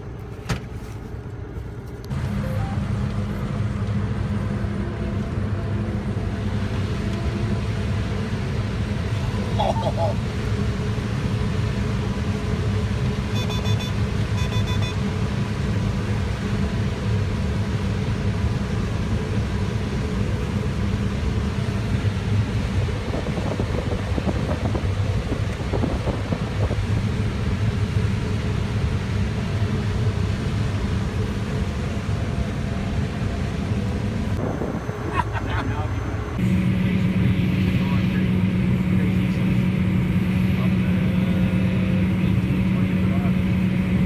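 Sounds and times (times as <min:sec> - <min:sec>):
combine harvester drone: 0:00.0 - 0:44.0.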